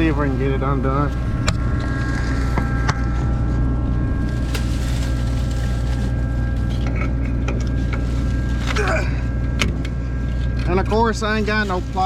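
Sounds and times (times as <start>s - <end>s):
farm machinery engine droning: 0.0s - 12.0s.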